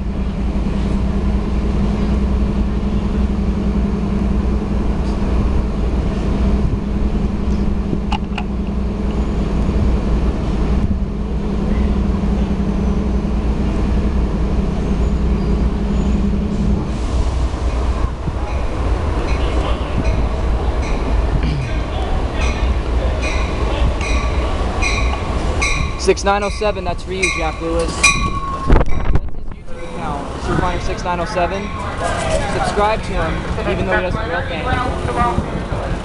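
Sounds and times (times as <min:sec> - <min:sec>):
diesel locomotive rumbling: 0:00.0 - 0:36.0.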